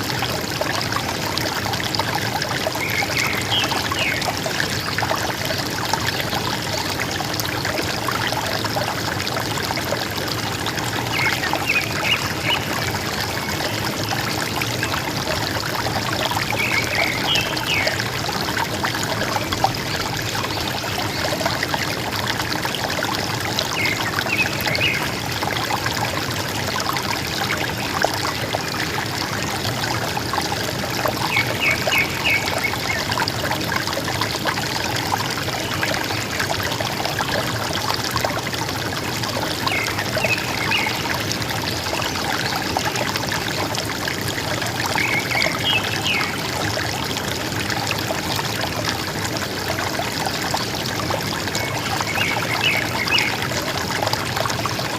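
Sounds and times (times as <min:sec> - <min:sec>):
river water gurgling: 0:00.0 - 0:54.9.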